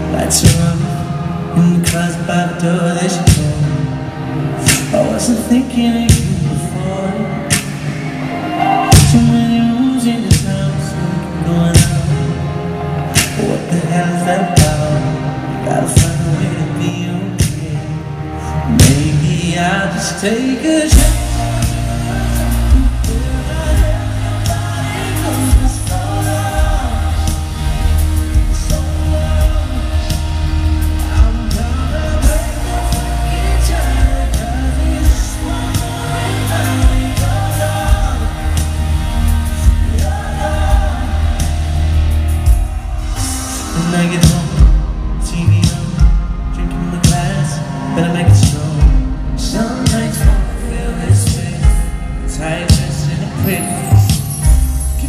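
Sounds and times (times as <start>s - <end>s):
live pop ballad piano and band: 0.0s - 55.0s
man singing: 0.0s - 55.0s.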